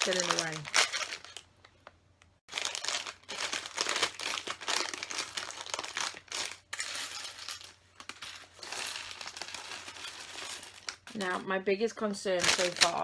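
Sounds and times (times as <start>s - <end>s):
plastic bags crinkling: 0.0s - 11.1s, 12.4s - 13.0s.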